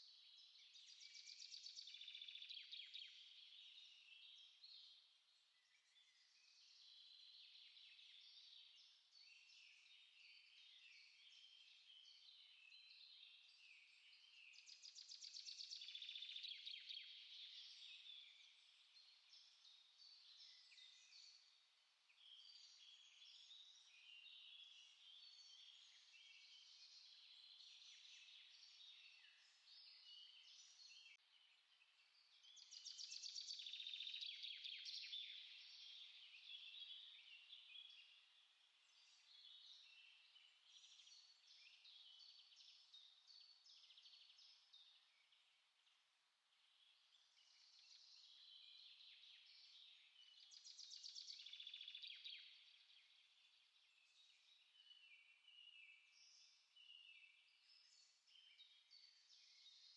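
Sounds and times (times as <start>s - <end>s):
songbirds chirping in chorus: 0.0s - 59.9s.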